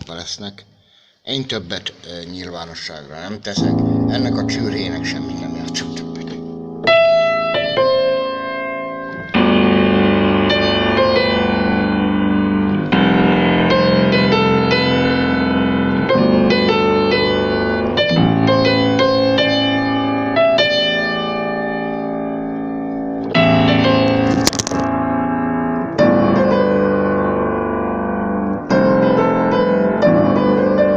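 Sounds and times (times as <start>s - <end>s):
electric piano chords and melody: 3.6s - 30.9s.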